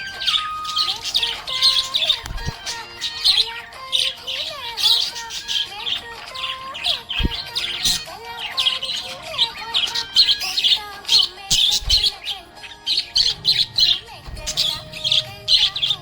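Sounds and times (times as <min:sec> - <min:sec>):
budgerigars chirping and warbling: 0:00.0 - 0:16.0.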